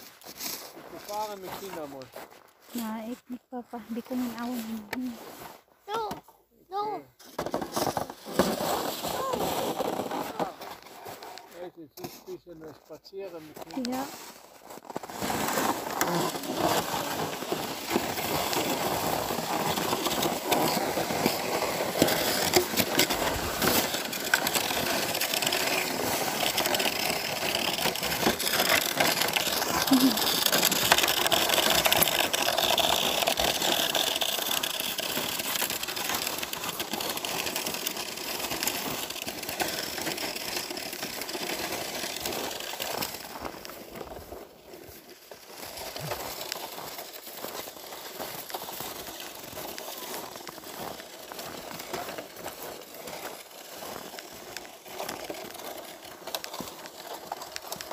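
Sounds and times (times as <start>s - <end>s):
sled scraping on packed snow: 0.0s - 57.9s.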